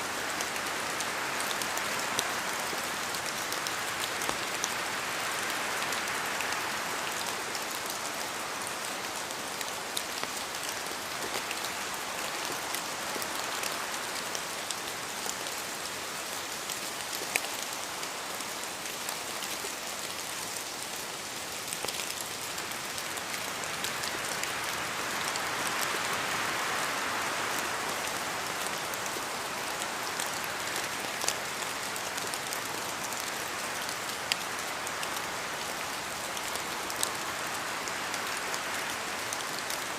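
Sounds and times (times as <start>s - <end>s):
rain in a forest: 0.0s - 39.9s.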